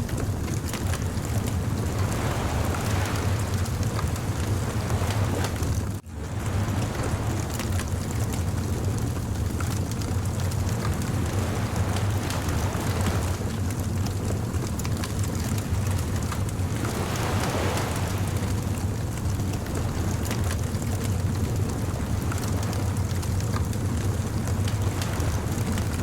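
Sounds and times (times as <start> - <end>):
wood fire crackling: 0.0 - 25.4
low rumble of surf: 0.0 - 26.0
wave washing in: 0.0 - 26.0.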